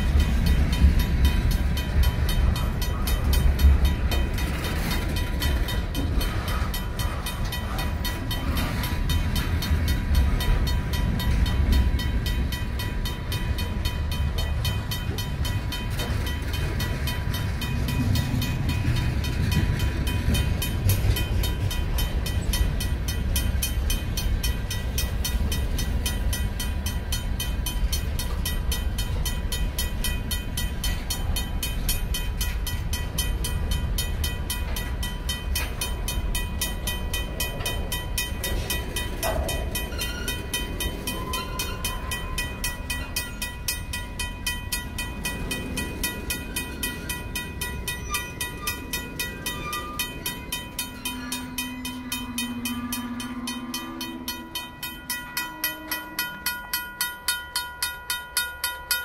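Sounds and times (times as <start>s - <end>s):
crossing signal bell ringing: 0.0s - 59.0s
freight train wheels rumbling: 0.0s - 59.0s
train wheel clacks: 0.0s - 59.0s.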